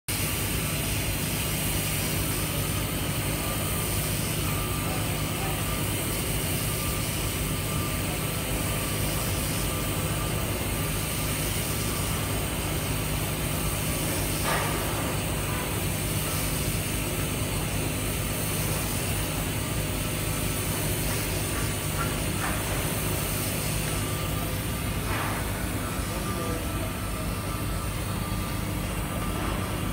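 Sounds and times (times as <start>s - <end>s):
welding arc hissing: 0.1s - 29.9s
low machine hum: 0.2s - 29.9s.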